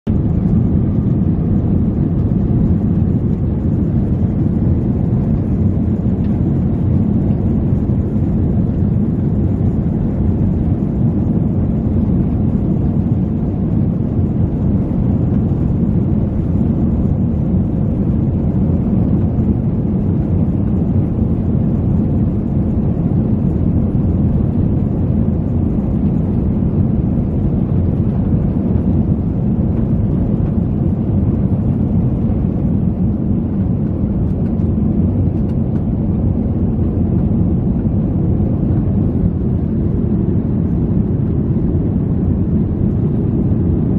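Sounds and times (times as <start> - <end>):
airliner cabin low rumble: 0.0 - 43.9.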